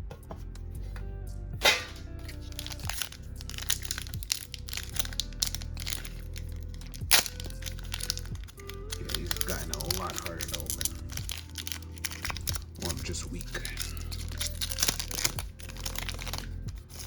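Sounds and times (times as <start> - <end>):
background music: 0.0 - 17.0
foil pack crinkling: 1.6 - 17.0
sharp cracks of foil: 1.6 - 17.0.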